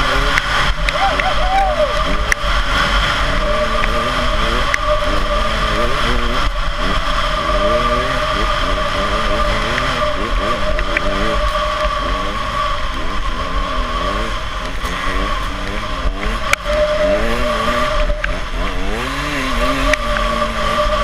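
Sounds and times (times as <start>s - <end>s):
high whine of drive: 0.0s - 21.0s
snowmobile engine revving: 0.0s - 21.0s.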